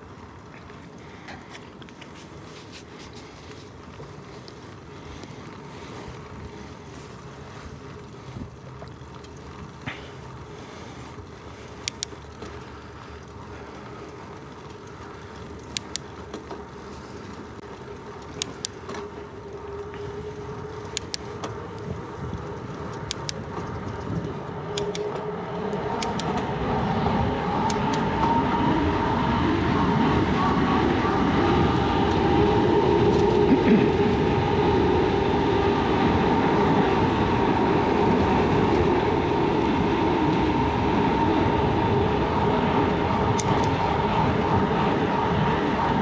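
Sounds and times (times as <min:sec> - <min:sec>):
bicycle tyres and wind rushing: 0:00.0 - 0:46.0
motor vehicle: 0:00.0 - 0:46.0.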